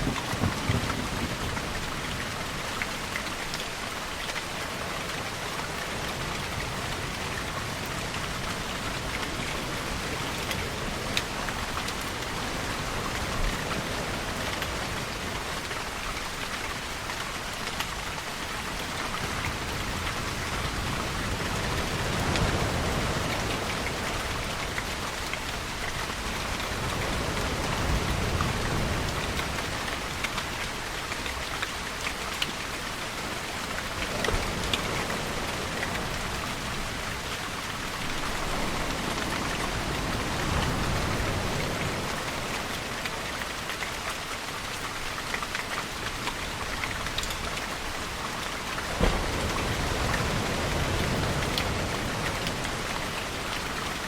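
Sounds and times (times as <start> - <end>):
heavy rainfall: 0.0 - 54.0
water swells: 0.0 - 54.0.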